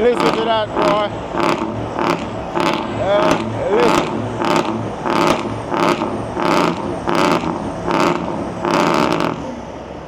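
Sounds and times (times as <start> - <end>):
diesel truck engine revving: 0.0 - 10.0.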